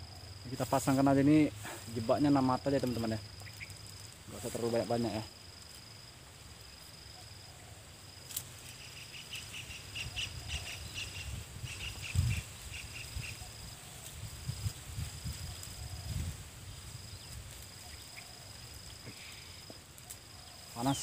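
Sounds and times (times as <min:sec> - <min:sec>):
high insect trill: 0:00.0 - 0:21.0
dry palm fronds rustling: 0:00.3 - 0:21.0.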